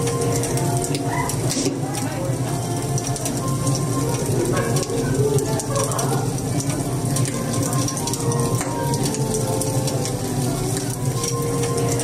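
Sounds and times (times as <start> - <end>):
background music: 0.0 - 12.0
fireplace crackling and popping: 0.0 - 12.0
murmur of voices: 0.0 - 12.0.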